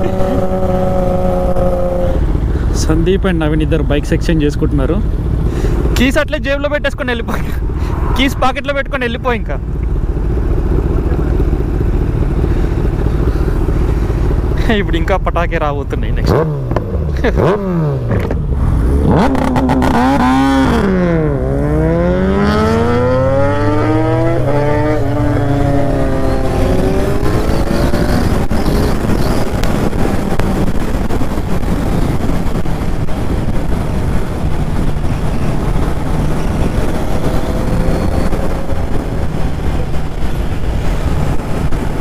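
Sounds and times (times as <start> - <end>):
motorcycle engine accelerating: 0.0 - 42.0
rushing wind and road noise: 0.0 - 42.0.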